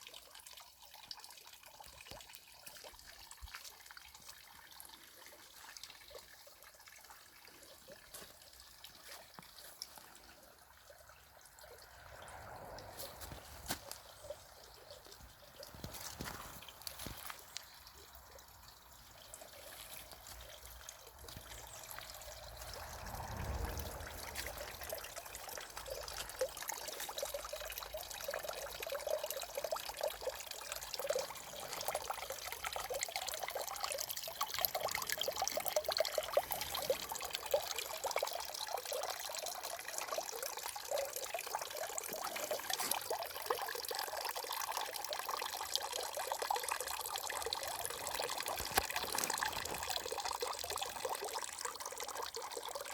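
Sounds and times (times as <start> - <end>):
water trickling down a fountain: 0.0 - 52.9.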